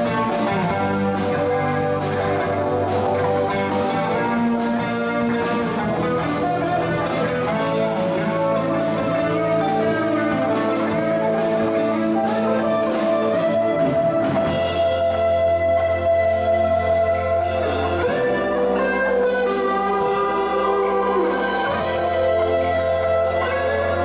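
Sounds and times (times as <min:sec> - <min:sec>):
drum kit: 0:00.0 - 0:24.0
electric bass held notes: 0:00.0 - 0:24.0
electric guitar: 0:00.0 - 0:24.0
keyboard: 0:00.0 - 0:24.0.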